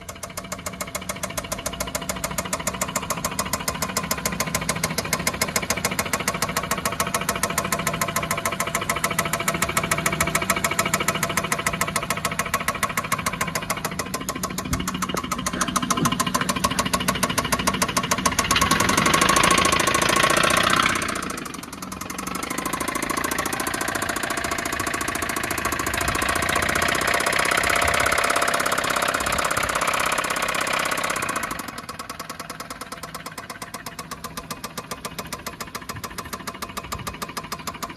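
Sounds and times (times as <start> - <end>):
car engine knocking tick: 0.0 - 37.9.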